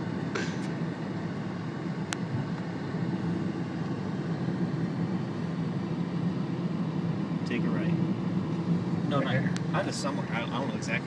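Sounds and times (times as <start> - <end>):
car engine and tyres from inside: 0.0 - 11.0.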